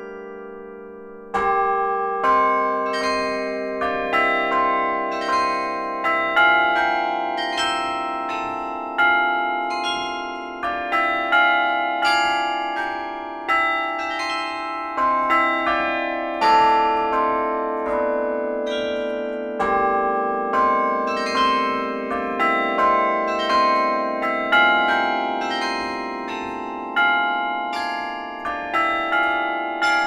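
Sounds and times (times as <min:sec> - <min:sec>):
carillon bells playing a tune: 0:01.4 - 0:30.0.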